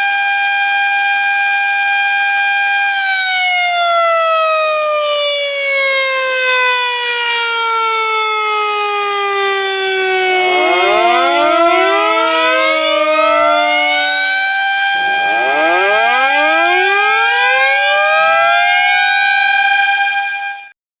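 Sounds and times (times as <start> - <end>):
warning siren wailing: 3.0 - 20.6.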